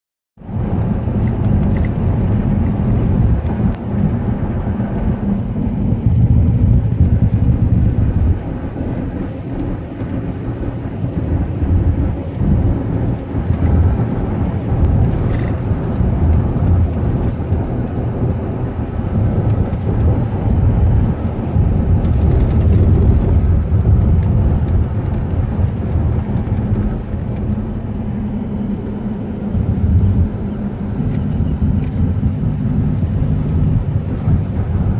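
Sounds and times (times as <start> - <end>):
car interior road rumble: 0.4 - 34.9.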